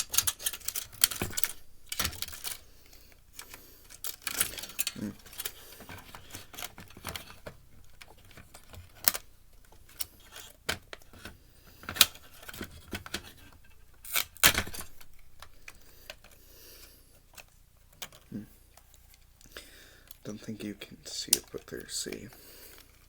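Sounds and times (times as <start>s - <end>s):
clicks and knocks of plastic parts: 0.0s - 16.4s, 17.1s - 23.0s.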